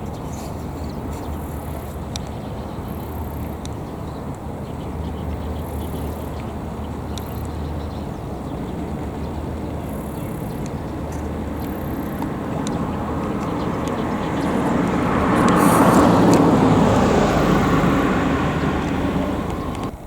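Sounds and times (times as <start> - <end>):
road vehicle passing: 0.0 - 20.0.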